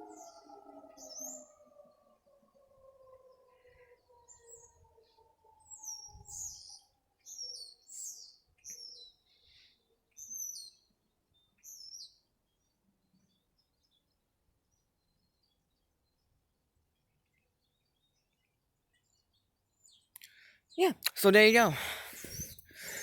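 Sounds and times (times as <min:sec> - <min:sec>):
small bird chirping: 0:00.0 - 0:16.3, 0:16.9 - 0:23.0.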